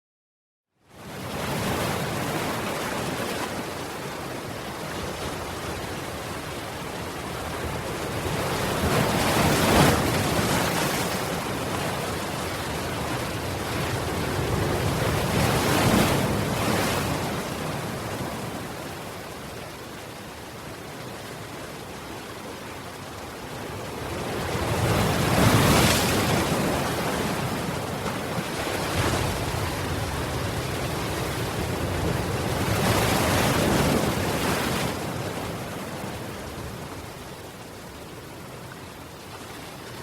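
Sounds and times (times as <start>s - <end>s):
ocean waves washing on shore: 0.9s - 40.0s
waves breaking: 1.1s - 40.0s.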